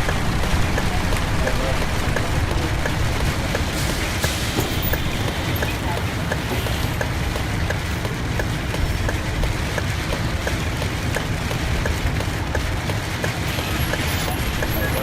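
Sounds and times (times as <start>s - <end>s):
bus engine and tyres rumbling: 0.0s - 15.0s
heavy rain on a bus: 0.0s - 15.0s.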